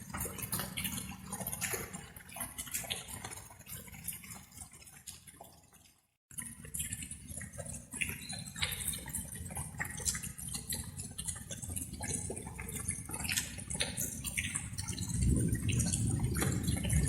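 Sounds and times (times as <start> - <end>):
raindrops pattering: 0.0 - 17.0.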